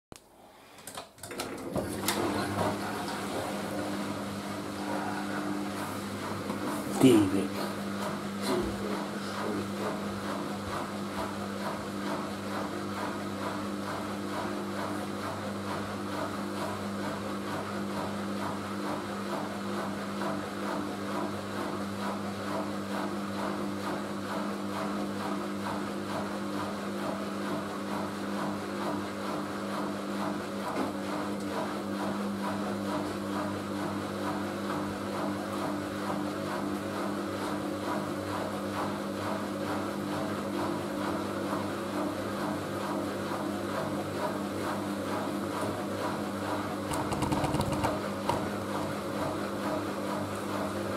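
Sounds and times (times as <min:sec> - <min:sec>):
washing machine running: 0:00.4 - 0:50.9.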